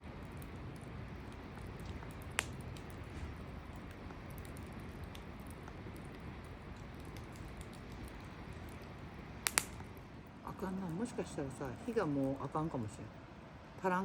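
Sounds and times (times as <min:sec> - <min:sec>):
campfire burning: 0:00.0 - 0:14.0.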